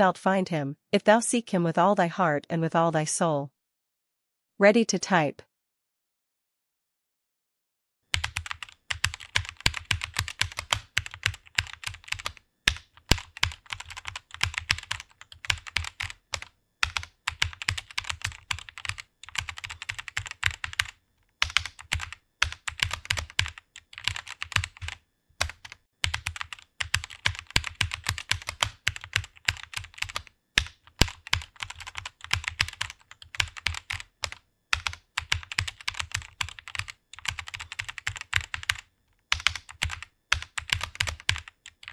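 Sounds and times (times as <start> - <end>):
fast typing on keyboard: 8.1 - 41.9.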